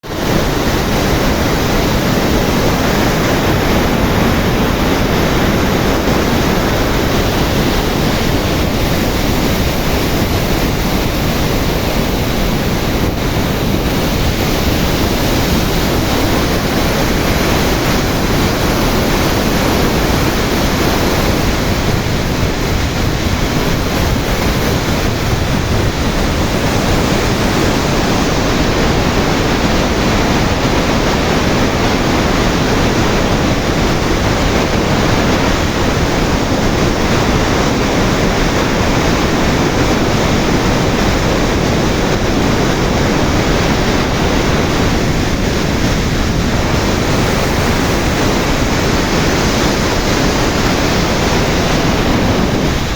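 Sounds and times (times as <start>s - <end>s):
water rushing through spillway: 0.0s - 52.9s.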